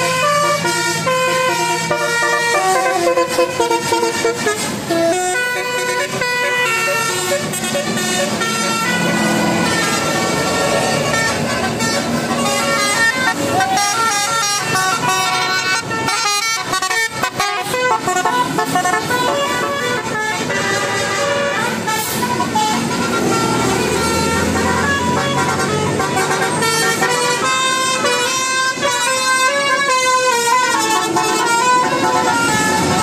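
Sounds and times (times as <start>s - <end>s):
multi-tone bus air horn: 0.0s - 33.0s.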